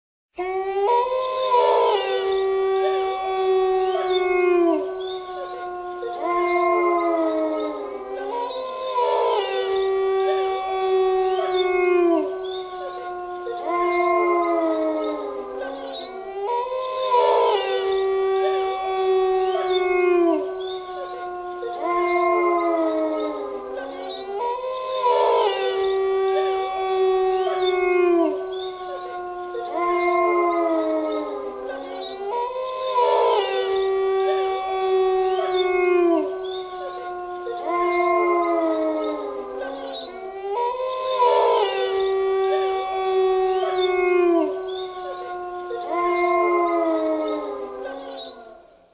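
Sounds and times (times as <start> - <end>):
wolves howling: 0.4 - 48.9.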